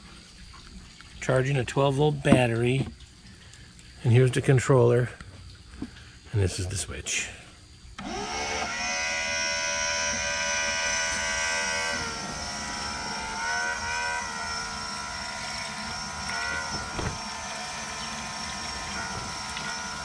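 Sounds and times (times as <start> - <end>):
electric water pump whining: 0.0 - 20.0.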